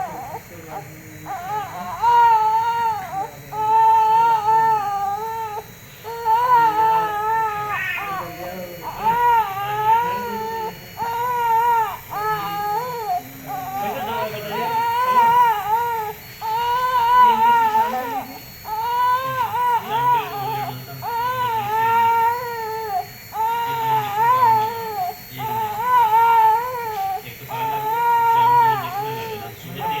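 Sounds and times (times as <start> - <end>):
baby crying: 0.0 - 30.0.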